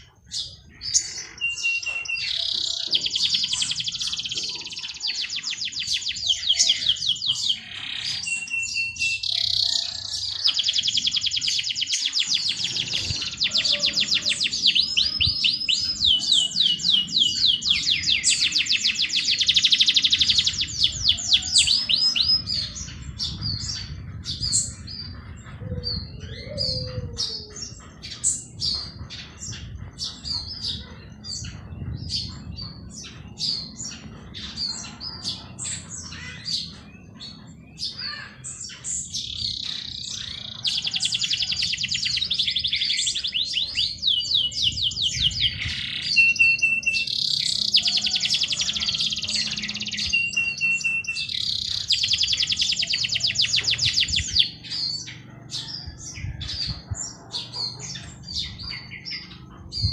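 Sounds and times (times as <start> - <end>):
bird singing fast trills: 0.0 - 59.9
songbirds chirping: 0.0 - 59.9.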